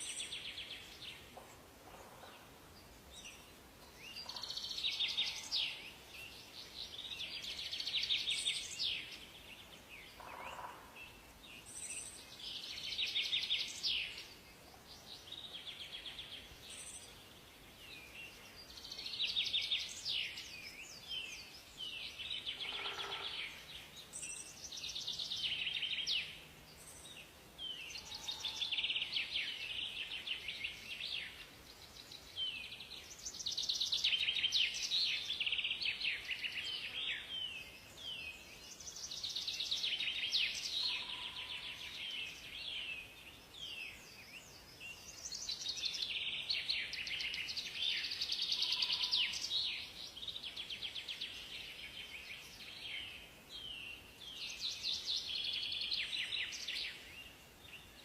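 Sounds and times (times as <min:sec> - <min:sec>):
faint background hiss: 0:00.0 - 0:58.0
trilled birdsong: 0:00.0 - 0:58.0.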